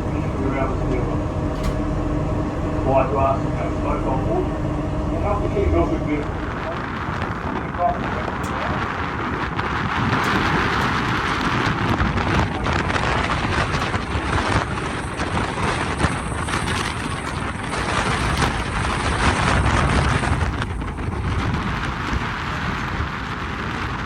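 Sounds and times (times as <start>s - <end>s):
boat engine rumble: 0.0s - 24.0s
wind buffeting microphone: 0.0s - 24.0s.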